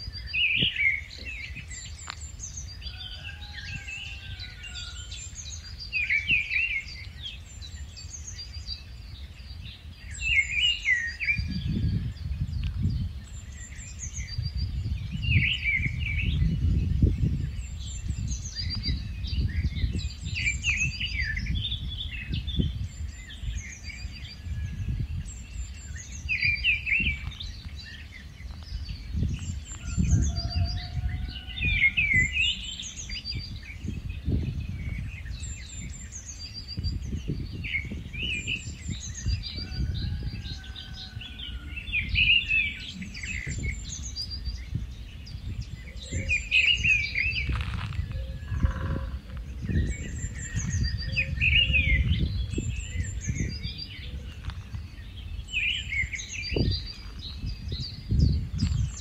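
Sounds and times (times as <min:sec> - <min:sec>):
songbirds chirping and warbling: 0:00.0 - 0:59.0.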